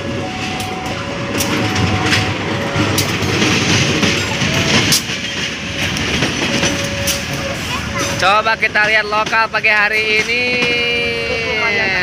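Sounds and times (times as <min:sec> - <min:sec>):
locomotive engine rumbling: 0:00.0 - 0:12.0.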